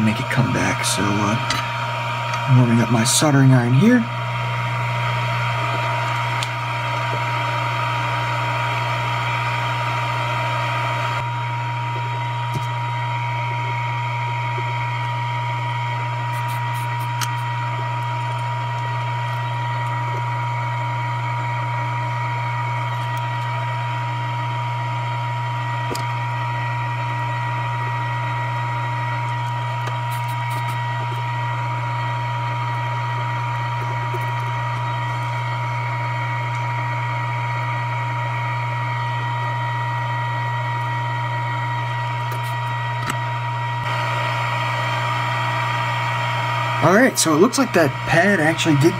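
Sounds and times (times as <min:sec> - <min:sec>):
machine hum: 0:00.0 - 0:48.9
thin high whine: 0:00.0 - 0:48.9.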